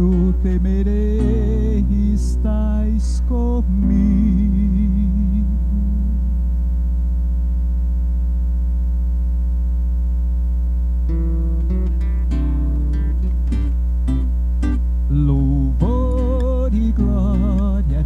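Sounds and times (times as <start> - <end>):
acoustic guitar: 0.0 - 8.1, 9.6 - 18.0
low electrical hum: 0.0 - 18.0.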